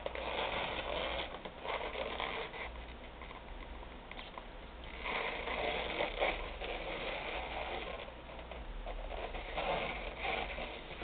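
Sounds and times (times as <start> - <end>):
balloon rubbing and squeaking: 0.0 - 3.8, 4.8 - 11.0.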